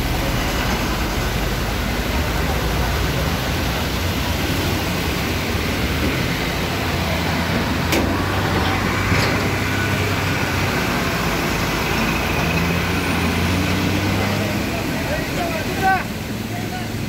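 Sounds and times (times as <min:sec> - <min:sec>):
water churning around wheels: 0:00.0 - 0:17.0.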